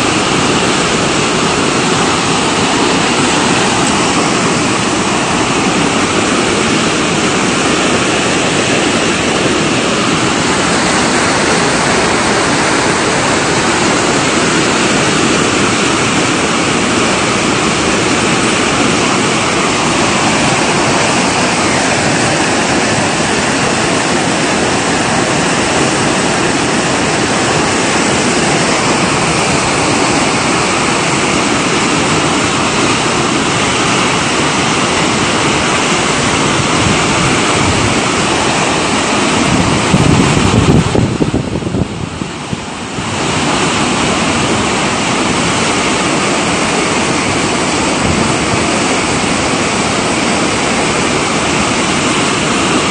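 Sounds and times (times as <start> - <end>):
flash-flood torrent rushing: 0.0 - 52.9.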